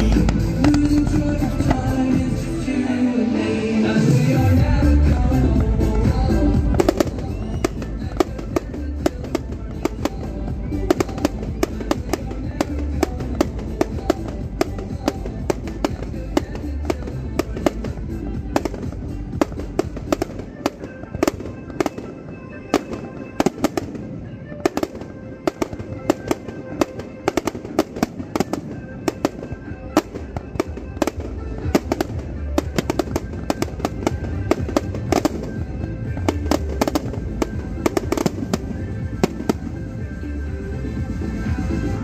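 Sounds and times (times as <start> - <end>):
fireworks bangs and crackles: 0.0 - 2.9, 3.6 - 42.0
music playing: 0.0 - 42.0.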